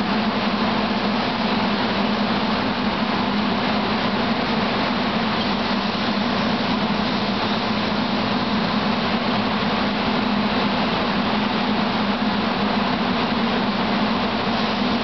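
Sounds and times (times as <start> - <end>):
electric railcar humming: 0.0 - 15.0.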